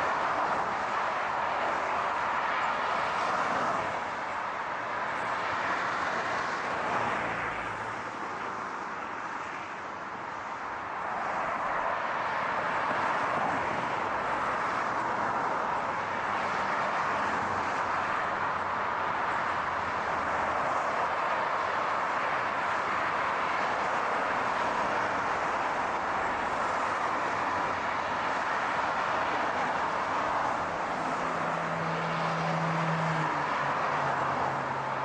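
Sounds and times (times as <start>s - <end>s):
car road noise: 0.0s - 35.0s.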